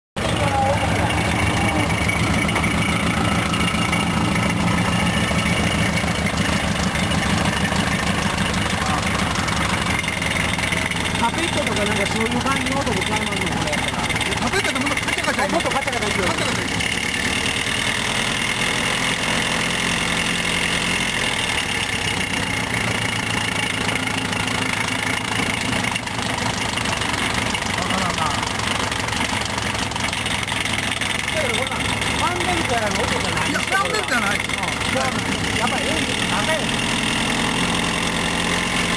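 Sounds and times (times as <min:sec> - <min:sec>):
car engine idling: 0:00.2 - 0:38.9.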